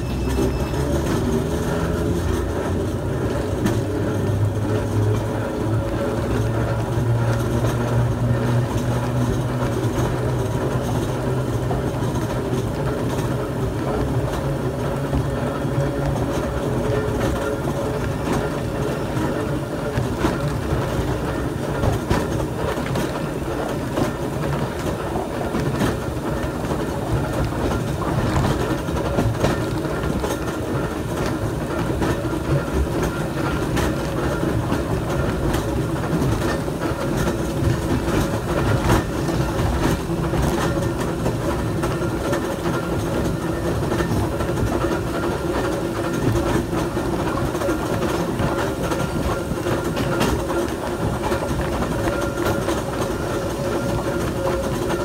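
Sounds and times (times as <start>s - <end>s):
streetcar wheels clattering on rails: 0.0s - 55.0s.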